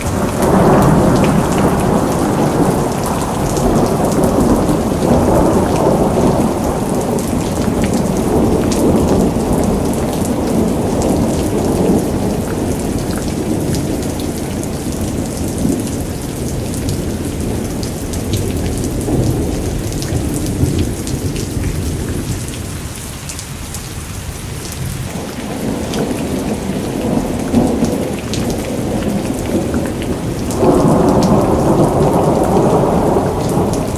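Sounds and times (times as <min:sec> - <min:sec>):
rolling thunder: 0:00.0 - 0:22.8, 0:24.5 - 0:33.9
heavy rain falling: 0:00.0 - 0:33.9.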